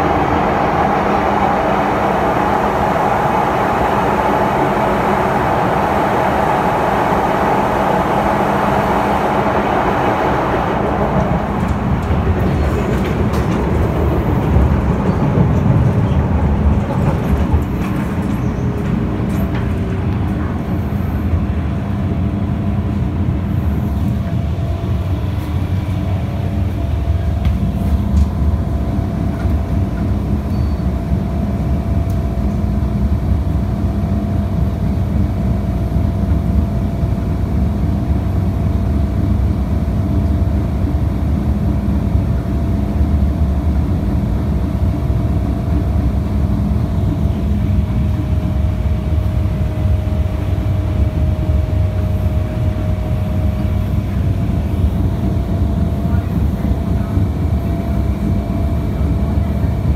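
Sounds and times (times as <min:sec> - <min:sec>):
steady whine: 0:00.0 - 0:59.9
train wheels rumbling on track: 0:00.0 - 0:59.9.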